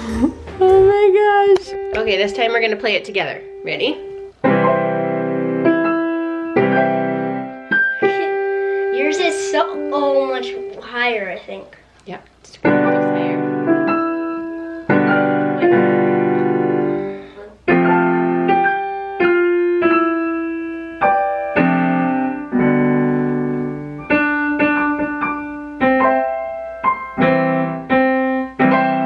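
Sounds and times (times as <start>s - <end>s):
piano played four-hands: 0.0s - 11.6s, 12.6s - 29.0s.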